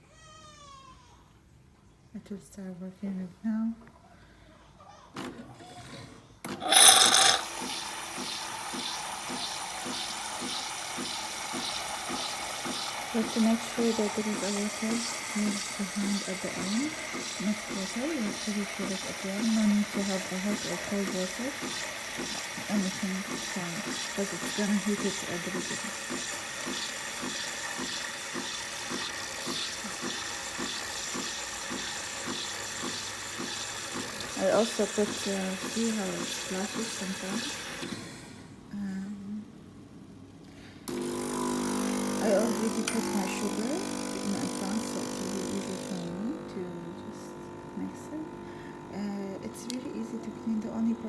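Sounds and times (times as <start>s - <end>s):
coffee machine hiss: 6.5s - 38.4s, 40.9s - 51.0s
coffee machine running with pulse: 6.5s - 39.2s, 40.9s - 51.0s.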